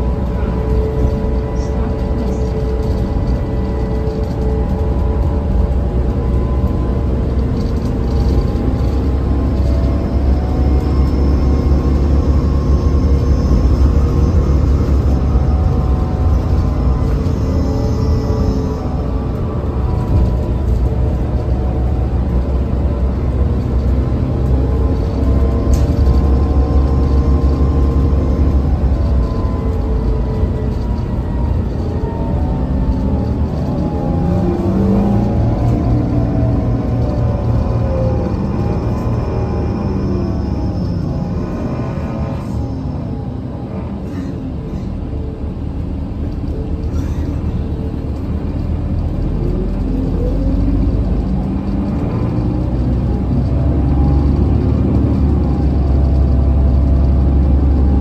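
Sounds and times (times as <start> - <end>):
bus engine and road rumble: 0.0 - 58.0
whining tones: 0.0 - 58.0.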